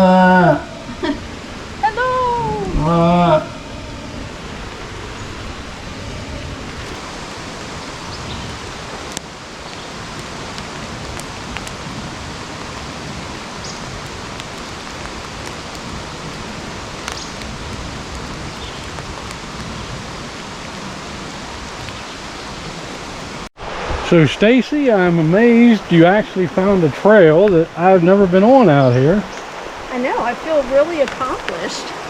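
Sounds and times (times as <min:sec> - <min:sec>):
rushing water hiss: 0:00.0 - 0:32.0.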